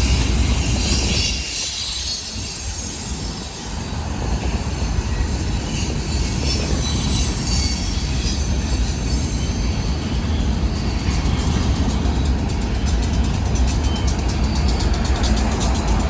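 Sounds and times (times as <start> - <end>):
faint wheel squeal: 0.0 - 13.1
freight train rumbling past: 0.0 - 16.0.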